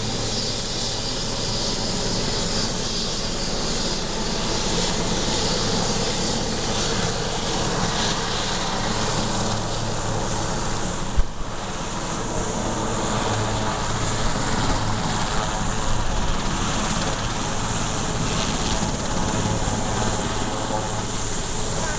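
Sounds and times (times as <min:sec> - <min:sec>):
helicopter running on the ground: 0:00.0 - 0:21.9
high turbine whine: 0:00.0 - 0:21.9.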